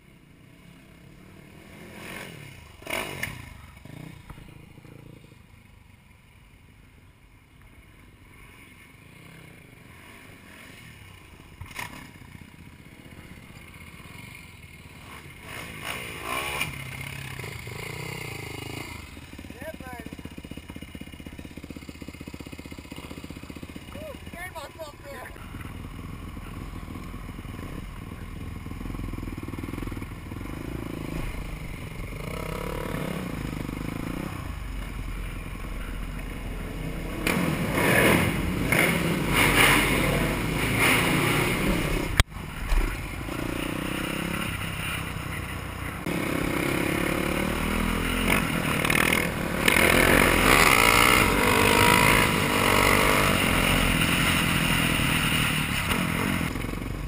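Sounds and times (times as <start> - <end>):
motorcycle engine accelerating: 0.5 - 5.8, 8.4 - 57.0.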